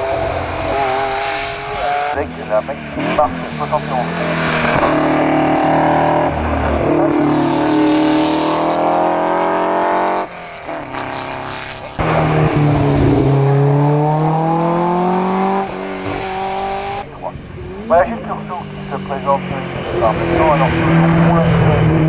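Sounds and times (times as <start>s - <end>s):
car engine accelerating: 0.0s - 22.0s
racing car engine revving: 0.0s - 22.0s.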